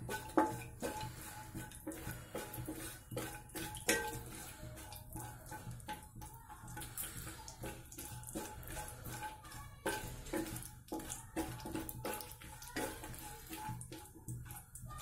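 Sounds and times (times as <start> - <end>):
nuts sizzling in hot oil: 0.0 - 15.0
wooden spatula scraping: 0.0 - 15.0.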